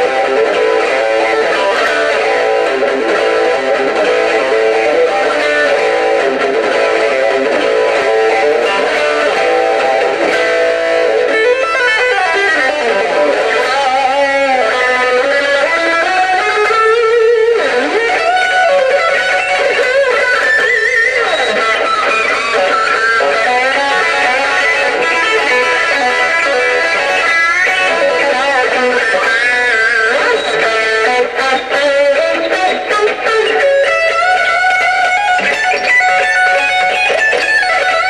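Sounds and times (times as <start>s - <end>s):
electric guitar rock solo: 0.0s - 38.0s.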